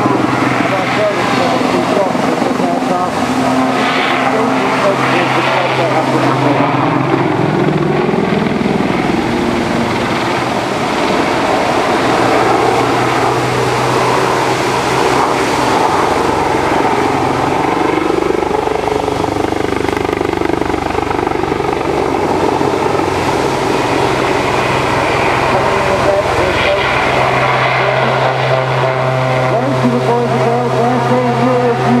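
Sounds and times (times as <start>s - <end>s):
helicopter rotor and turbine: 0.0s - 32.0s.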